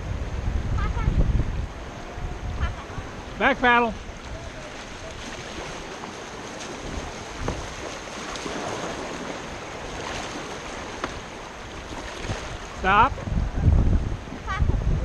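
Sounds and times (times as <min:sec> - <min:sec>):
rushing whitewater: 0:00.0 - 0:15.0.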